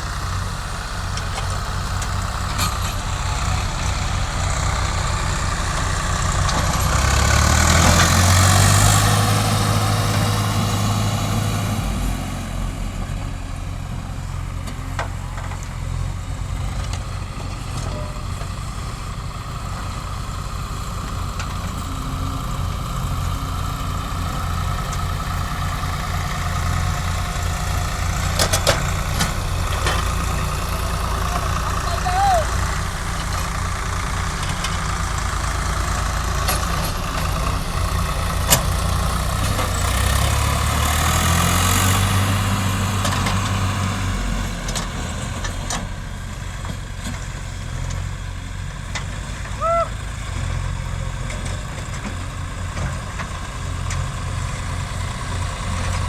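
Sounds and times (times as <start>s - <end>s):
heavy machinery diesel engine: 0.0s - 56.0s.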